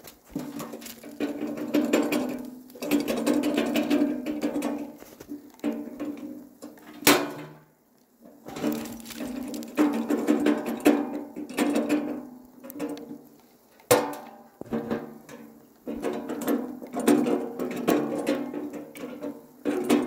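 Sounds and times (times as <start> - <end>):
metal stove clanging and rattling: 0.0 - 7.6, 8.4 - 13.2, 13.9 - 20.0.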